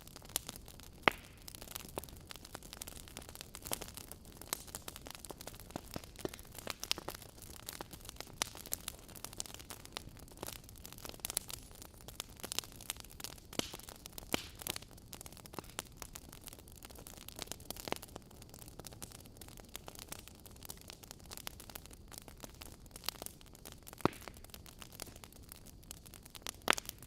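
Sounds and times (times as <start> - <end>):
burning logs crackling and popping: 0.0 - 27.0
fire hiss: 0.0 - 27.0.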